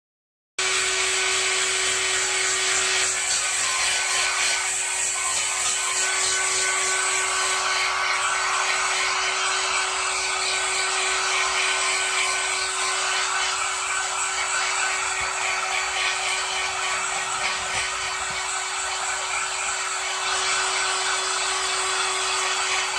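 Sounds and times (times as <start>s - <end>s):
hair dryer running: 0.6s - 22.9s.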